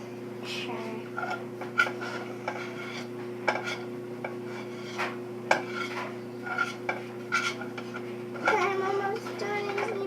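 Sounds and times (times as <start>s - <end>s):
steady hum: 0.0s - 10.0s
metal spoon scraping pot: 1.2s - 10.0s.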